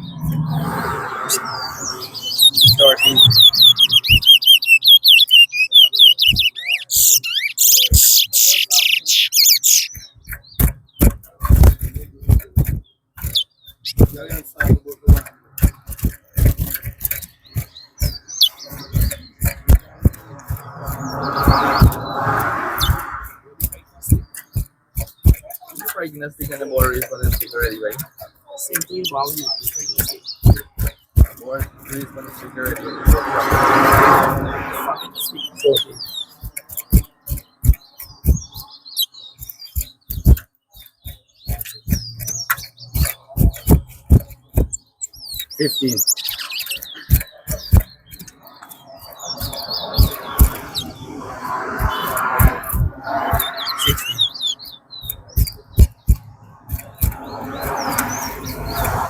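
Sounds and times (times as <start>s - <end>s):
sharp clicks and knocks: 0.0s - 1.8s, 2.4s - 59.0s
finch chirping and whistling: 0.0s - 59.0s.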